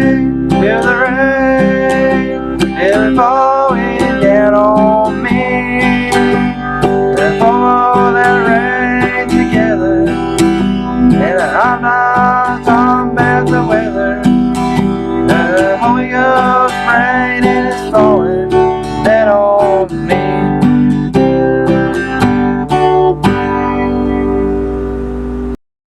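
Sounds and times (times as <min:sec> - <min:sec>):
acoustic guitar strumming: 0:00.0 - 0:25.6
sliding melody line: 0:00.0 - 0:25.6.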